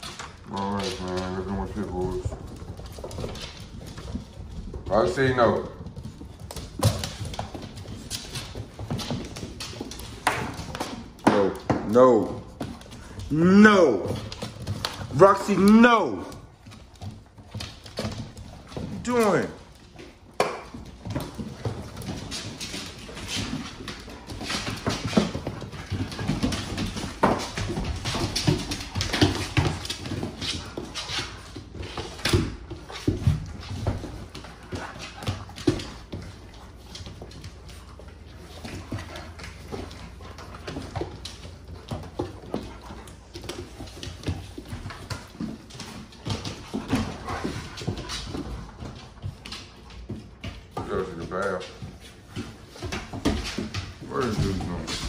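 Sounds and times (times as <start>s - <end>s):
dog claws clicking on wooden floor: 0.0s - 55.0s.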